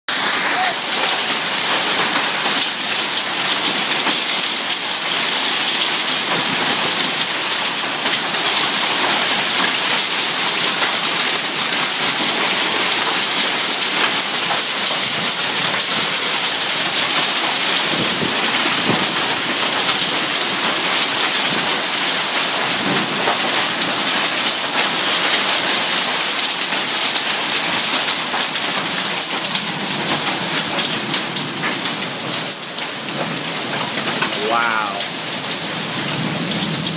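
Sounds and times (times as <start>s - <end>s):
hail and heavy rain: 0.1s - 36.9s.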